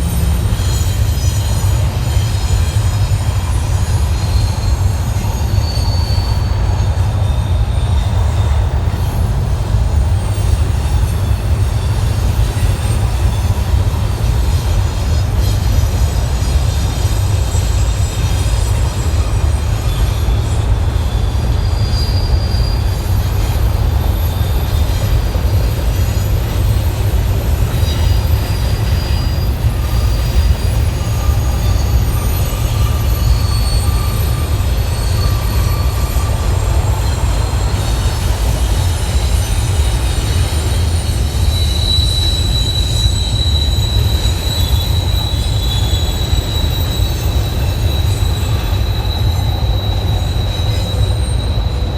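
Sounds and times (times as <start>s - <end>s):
freight train rumbling past: 0.0s - 51.9s
train wheels squealing: 0.0s - 51.9s.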